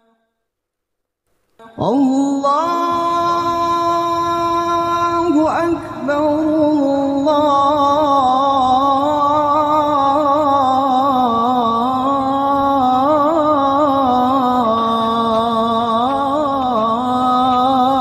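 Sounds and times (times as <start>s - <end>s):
man singing call to prayer: 1.6s - 18.0s.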